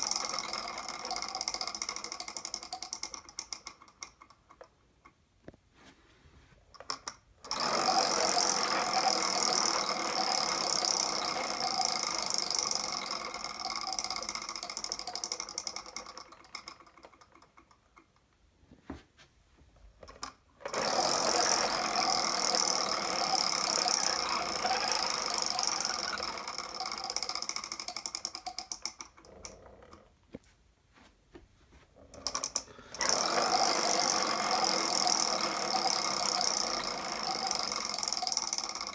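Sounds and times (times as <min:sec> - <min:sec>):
prize wheel pegs rattling: 0:00.0 - 0:04.8, 0:06.8 - 0:18.1, 0:20.1 - 0:29.6, 0:32.2 - 0:38.9.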